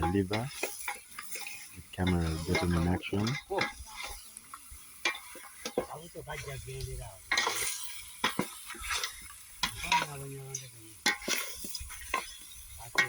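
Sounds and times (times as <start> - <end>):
utensil clinking against pan: 0.0 - 4.3, 5.0 - 6.5, 7.2 - 13.0
meat sizzling: 0.0 - 13.0
utensil scraping a pan: 0.0 - 13.0.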